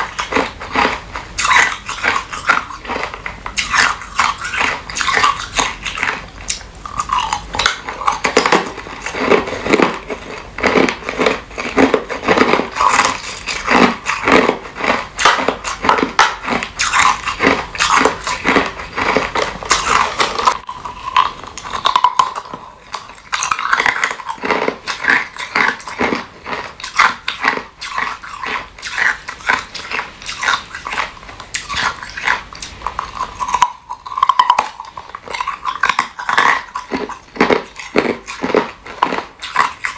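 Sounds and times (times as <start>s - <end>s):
ice being bitten and chewed: 0.0s - 39.9s.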